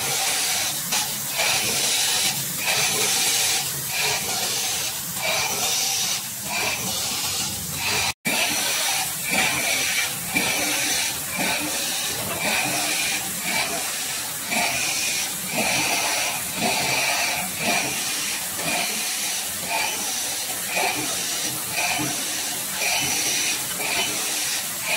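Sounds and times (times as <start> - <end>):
printing machine hissing: 0.0 - 24.9
repeating mechanical strokes: 0.0 - 24.9.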